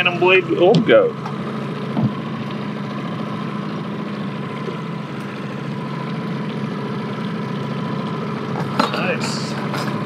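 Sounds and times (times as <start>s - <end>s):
outboard motor humming: 0.0s - 10.0s.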